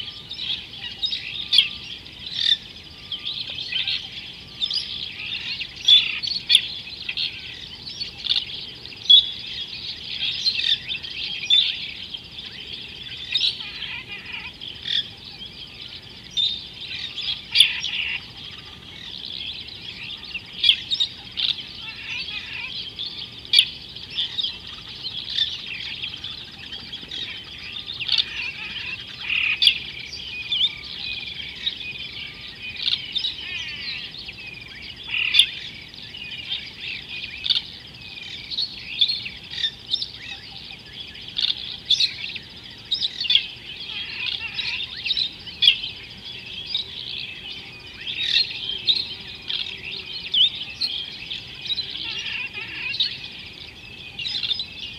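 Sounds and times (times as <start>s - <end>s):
birds chirping chorus: 0.0s - 54.9s.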